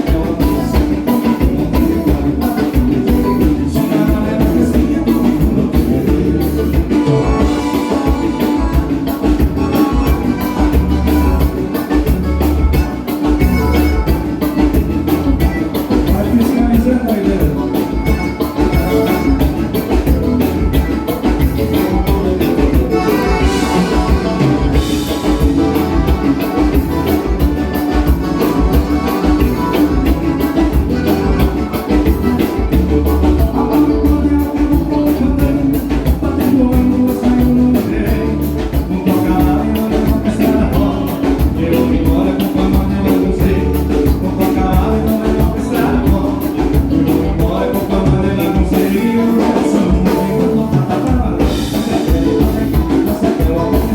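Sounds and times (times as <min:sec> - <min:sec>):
drums dance beat: 0:00.0 - 0:53.9
live dance band playing: 0:00.0 - 0:53.9.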